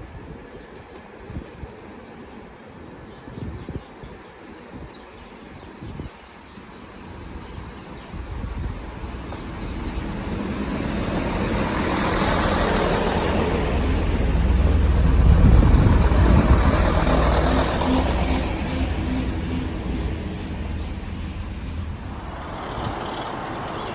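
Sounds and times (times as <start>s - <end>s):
train passing rumble: 0.0s - 23.9s.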